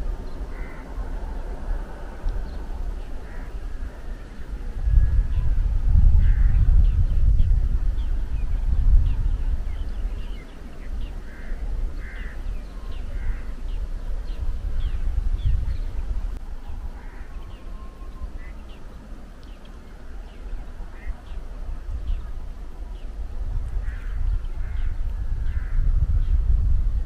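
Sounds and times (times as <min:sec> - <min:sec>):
birds chirping: 0:00.0 - 0:26.6
steady low rumble: 0:00.0 - 0:27.0.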